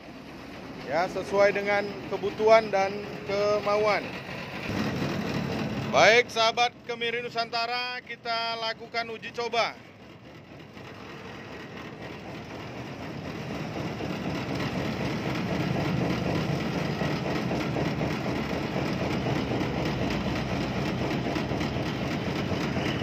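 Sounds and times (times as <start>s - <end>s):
sieving machine running: 0.0s - 23.0s.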